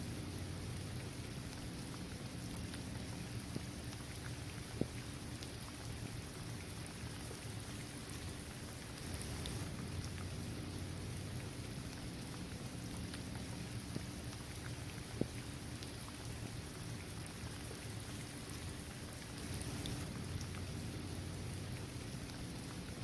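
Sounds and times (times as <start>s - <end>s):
rain falling on pavement: 0.0s - 23.0s
crisp rain drop ticks: 0.1s - 23.0s.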